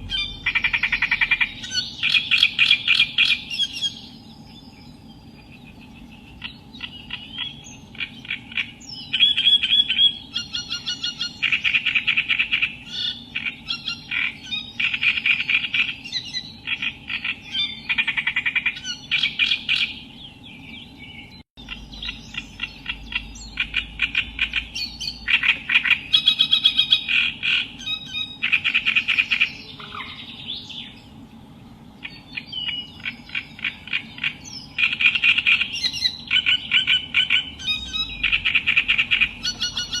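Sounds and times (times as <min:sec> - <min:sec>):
reed warbler chattering song: 0:00.0 - 0:40.0.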